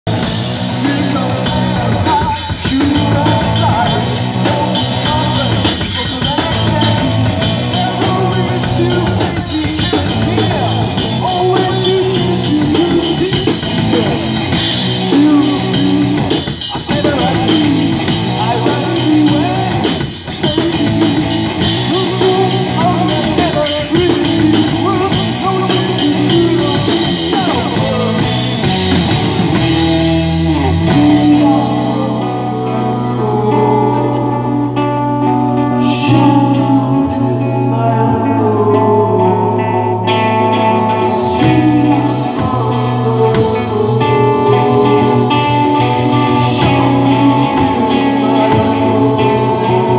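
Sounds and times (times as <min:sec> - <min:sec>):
drum kit beat: 0:00.0 - 0:37.1, 0:40.1 - 0:49.9
electric guitars: 0:00.0 - 0:49.9.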